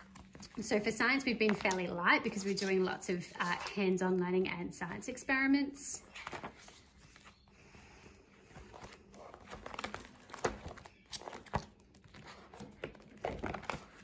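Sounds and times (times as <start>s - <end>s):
binder pages rustling and crinkling: 0.0s - 5.2s, 6.0s - 14.0s.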